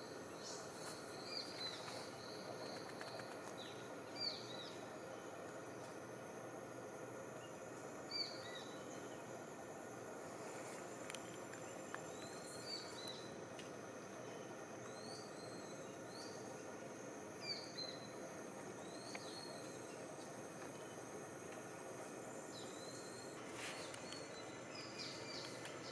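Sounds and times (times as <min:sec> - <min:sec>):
background hiss: 0:00.0 - 0:25.9
high insect drone: 0:00.0 - 0:25.9.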